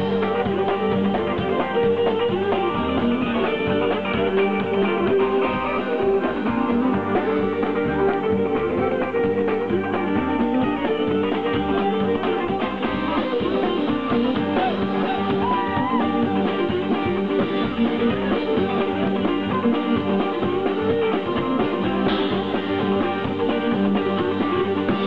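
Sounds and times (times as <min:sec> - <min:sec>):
fiddle melody: 0:00.0 - 0:25.0.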